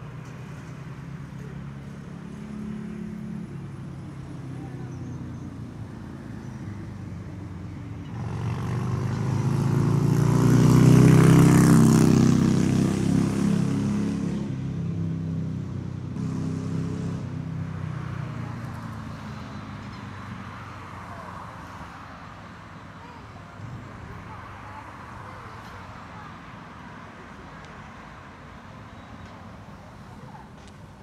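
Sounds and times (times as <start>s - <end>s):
motor vehicle passing: 0.0s - 28.1s.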